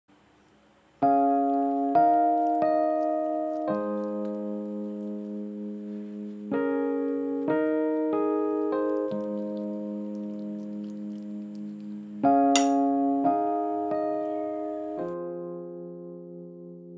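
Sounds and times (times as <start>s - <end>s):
keyboard playing slow chords: 1.0s - 16.9s.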